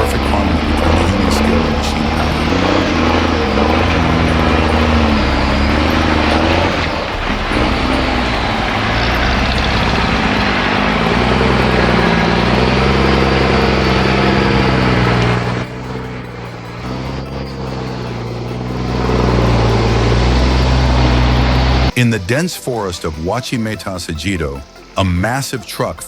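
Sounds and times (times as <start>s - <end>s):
dense rushing noise: 0.0s - 22.0s
truck diesel engine revving: 0.0s - 26.0s.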